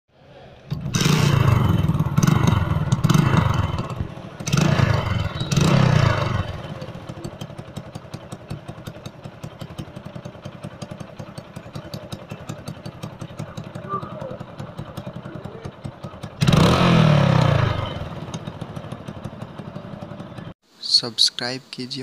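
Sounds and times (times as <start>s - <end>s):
motorcycle engine revving and idling: 0.5s - 20.6s.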